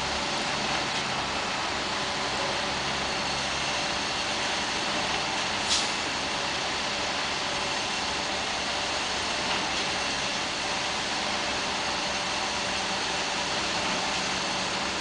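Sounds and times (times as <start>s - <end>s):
construction machine engine running: 0.0s - 15.0s.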